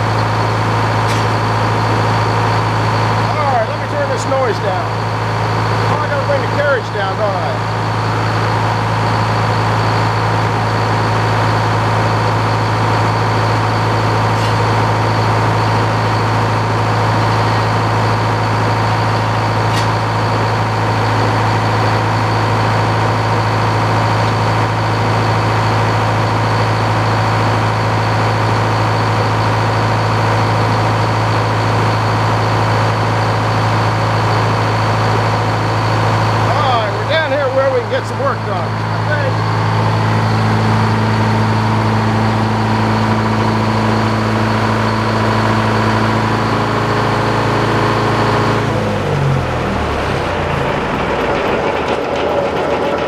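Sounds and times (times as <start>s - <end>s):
diesel engine running steadily: 0.0s - 53.0s.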